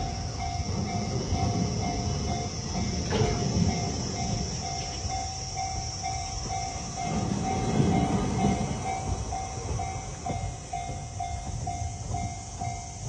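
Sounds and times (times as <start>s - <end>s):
freight train rumbling: 0.0s - 13.0s
railroad crossing alarm ringing: 0.0s - 13.0s.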